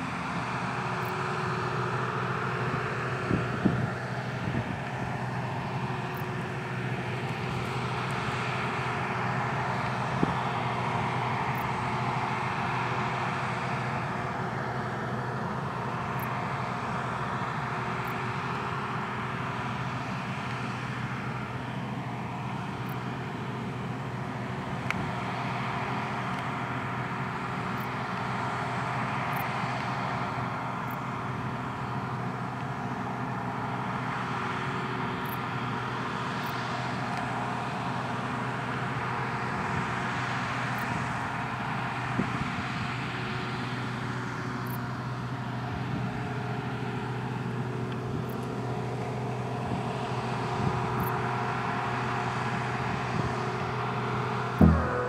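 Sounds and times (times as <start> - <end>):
combine harvester machinery drone: 0.0 - 55.0.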